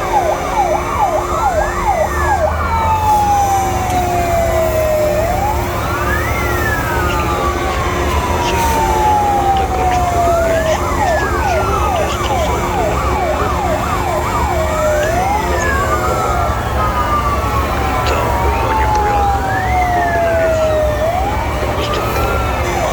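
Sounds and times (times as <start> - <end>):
fire truck sirens wailing: 0.0 - 22.9
siren fast yelp: 0.0 - 22.9.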